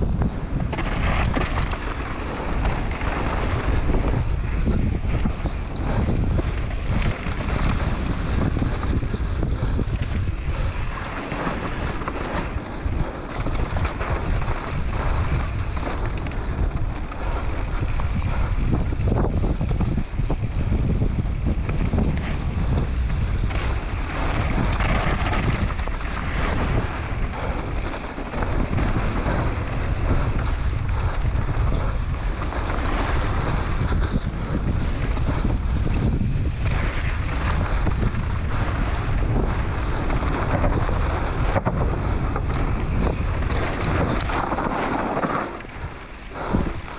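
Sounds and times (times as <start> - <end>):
bike clicks and rattles: 0.0 - 46.9
tyres rushing on dirt and gravel: 0.0 - 46.9
wind buffeting microphone: 0.0 - 46.9.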